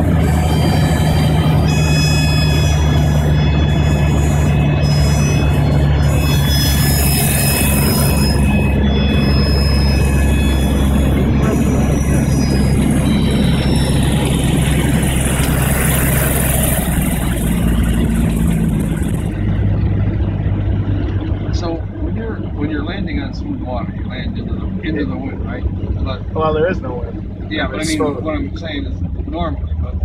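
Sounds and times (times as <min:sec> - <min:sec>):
plane engine and propeller: 0:00.0 - 0:30.0.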